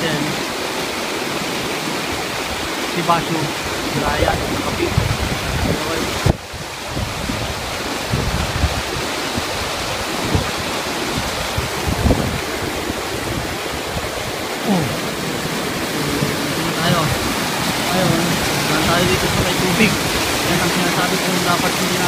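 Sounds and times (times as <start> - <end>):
water cascading over rocks: 0.0 - 22.0
wind on microphone: 1.3 - 22.0.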